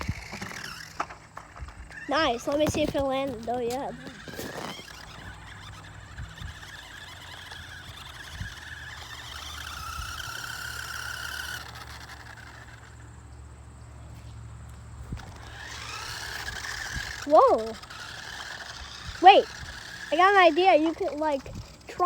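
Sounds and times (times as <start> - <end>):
steady low hum: 0.0 - 22.0
toy electric motor whine: 0.0 - 22.0.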